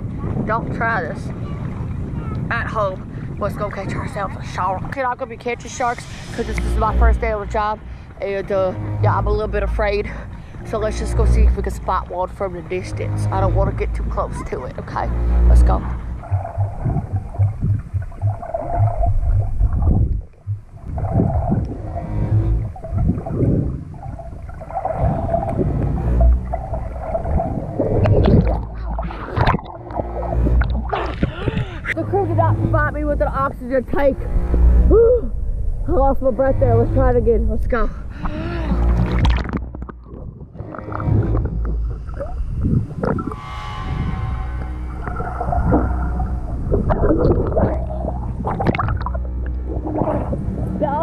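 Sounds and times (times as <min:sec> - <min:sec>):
low rumble: 0:00.0 - 0:51.0
low underwater thuds: 0:00.0 - 0:51.0
underwater water churning: 0:01.2 - 0:33.0, 0:38.2 - 0:51.0.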